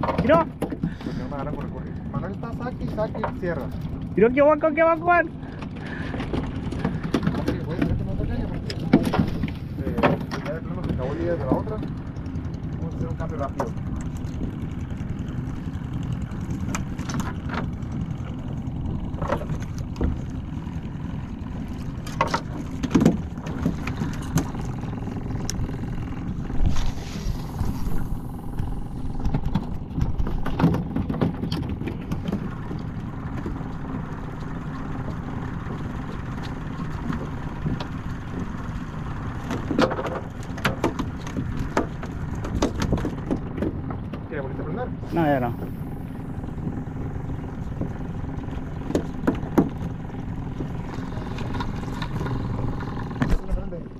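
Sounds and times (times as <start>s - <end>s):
outboard motor idling: 0.0s - 53.9s.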